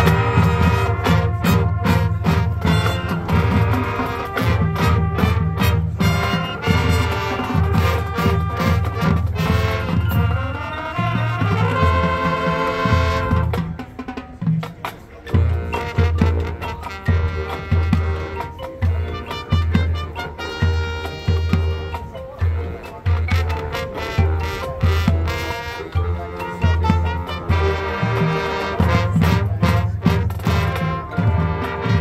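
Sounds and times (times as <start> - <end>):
marching band brass: 0.0 - 32.0.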